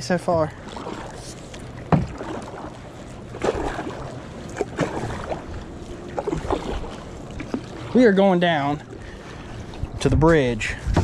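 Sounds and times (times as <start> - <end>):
rush of water: 0.0 - 11.0
wind: 0.0 - 11.0
paddle splashing in water: 0.6 - 10.0.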